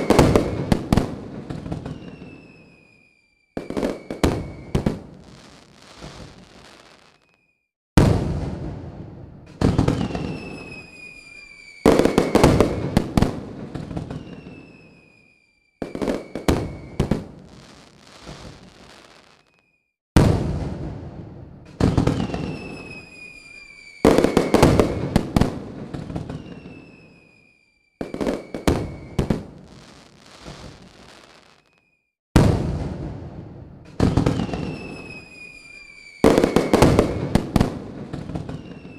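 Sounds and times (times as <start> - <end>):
firework crackling: 0.0 - 7.4, 9.5 - 19.6, 21.7 - 31.9, 33.9 - 38.9
descending firework whistles: 0.0 - 7.7, 9.6 - 19.9, 21.8 - 32.1, 34.0 - 38.9.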